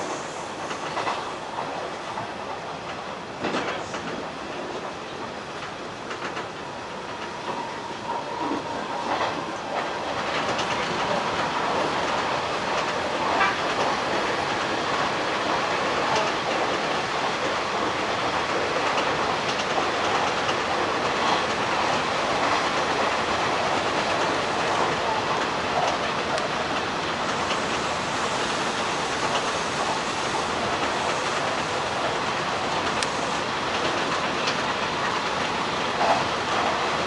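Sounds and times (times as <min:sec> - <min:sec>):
train wheels rumbling on rails: 0:00.0 - 0:37.0
clicks at rail joints: 0:00.6 - 0:27.9, 0:30.7 - 0:36.9.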